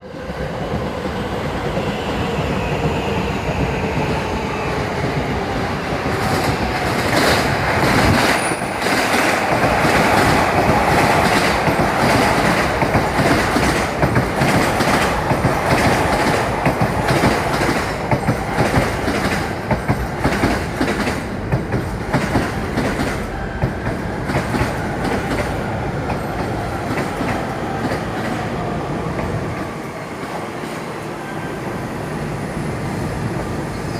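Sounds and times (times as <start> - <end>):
electric train rumbling: 0.0 - 33.9.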